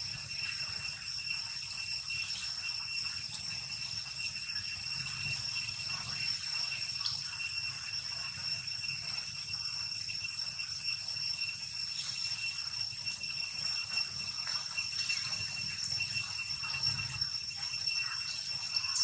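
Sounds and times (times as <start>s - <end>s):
high-pitched ringing drone: 0.0s - 19.0s.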